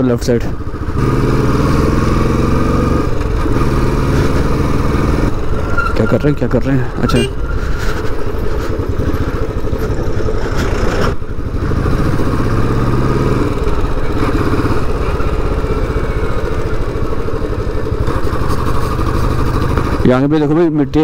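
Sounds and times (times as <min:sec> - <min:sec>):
motorcycle engine running: 0:00.0 - 0:05.8, 0:07.2 - 0:21.0.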